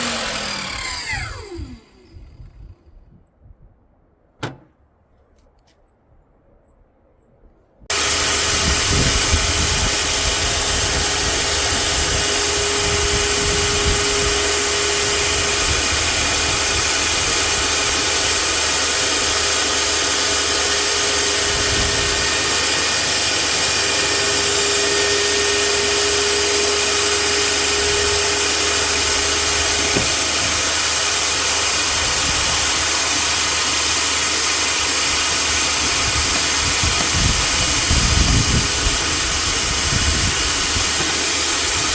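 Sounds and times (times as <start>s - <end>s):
table saw running: 0.0s - 2.8s, 7.9s - 41.9s.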